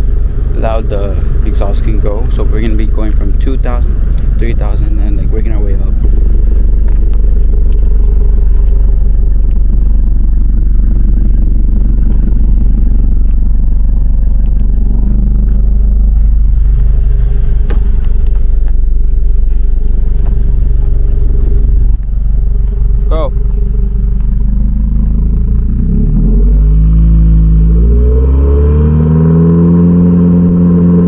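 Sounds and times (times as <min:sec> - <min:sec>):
car engine at raised revs: 0:00.0 - 0:31.0.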